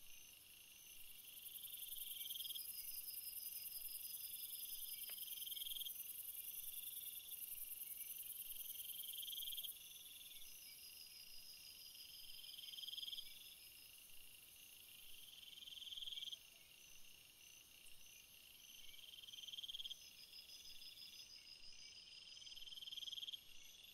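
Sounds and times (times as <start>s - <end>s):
lower insect trill: 0.0s - 23.9s.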